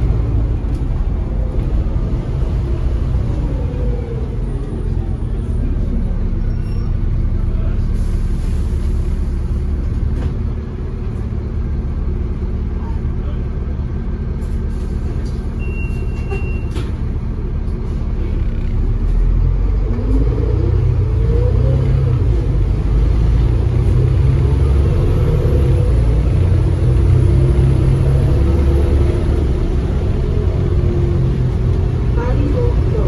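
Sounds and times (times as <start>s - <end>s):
bus diesel engine and road rumble: 0.0s - 33.0s.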